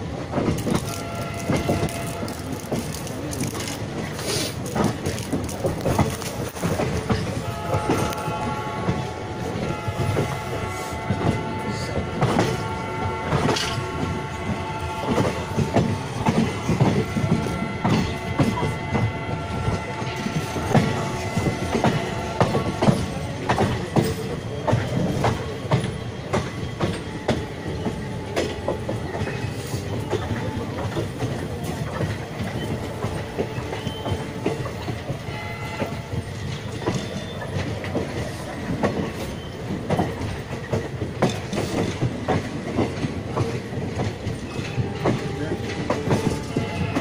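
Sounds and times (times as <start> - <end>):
train running rumble: 0.0 - 47.0
train wheels clattering over rail joints: 0.0 - 47.0.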